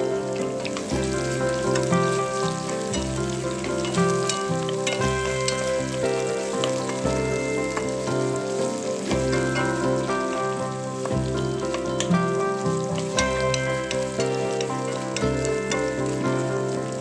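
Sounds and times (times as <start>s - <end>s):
background music with bass line: 0.0s - 17.0s
onion sizzling in hot oil: 0.0s - 17.0s.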